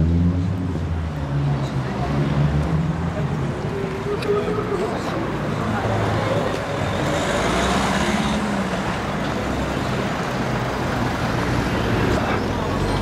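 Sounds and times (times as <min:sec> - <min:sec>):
city traffic noise: 0:00.0 - 0:13.0
vehicle engine humming nearby: 0:00.0 - 0:13.0.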